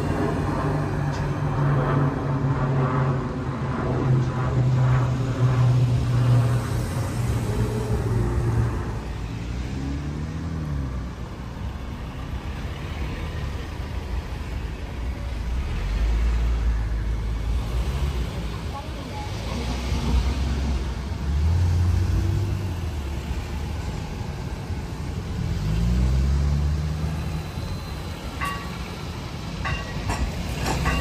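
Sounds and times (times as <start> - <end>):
car engines passing: 0.0 - 31.0
low vehicle rumble: 0.0 - 31.0.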